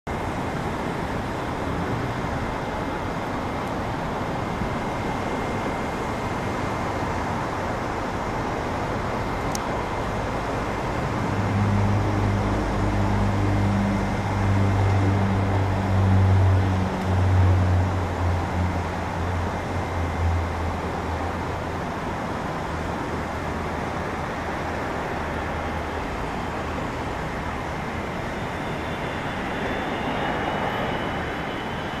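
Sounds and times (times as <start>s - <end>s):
jet airliner rumble and hiss: 0.1s - 32.0s.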